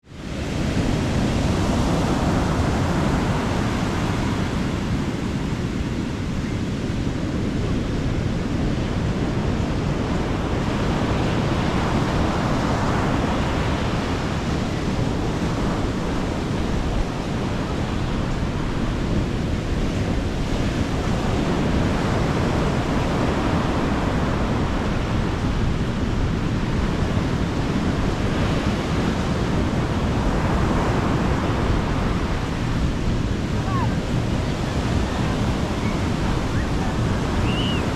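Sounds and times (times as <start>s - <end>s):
wind buffeting microphone: 0.0s - 37.9s
sea waves breaking on beach: 0.1s - 37.9s.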